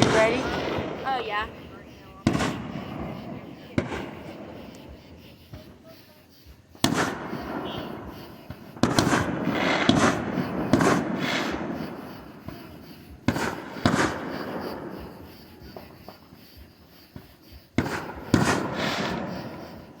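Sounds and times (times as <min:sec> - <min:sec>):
fireworks bangs: 0:00.0 - 0:20.0
fireworks rumble and crackle: 0:00.0 - 0:20.0.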